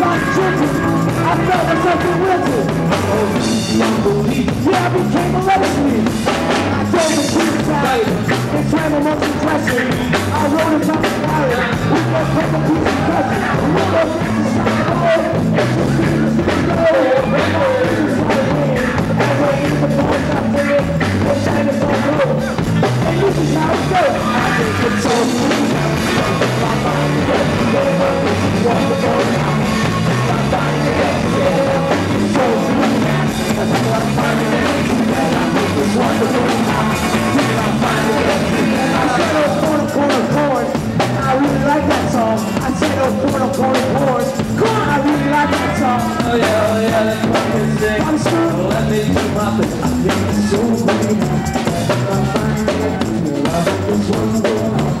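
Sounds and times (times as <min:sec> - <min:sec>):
bass guitar: 0:00.0 - 0:55.0
drum kit beat: 0:00.0 - 0:55.0
electric guitars: 0:00.0 - 0:55.0
person singing: 0:00.0 - 0:55.0.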